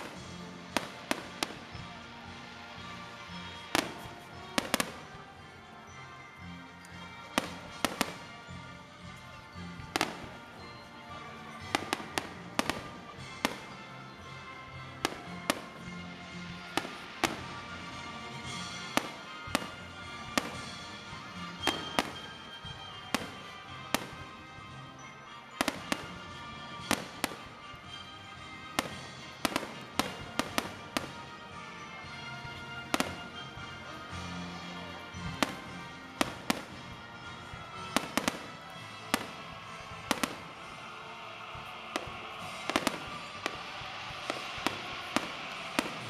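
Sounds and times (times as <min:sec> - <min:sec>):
music: 0:00.0 - 0:46.0.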